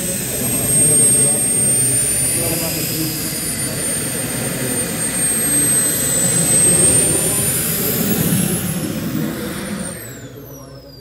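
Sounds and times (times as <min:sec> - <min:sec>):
model jet turbine whining: 0:00.0 - 0:11.0
rushing exhaust: 0:00.0 - 0:11.0.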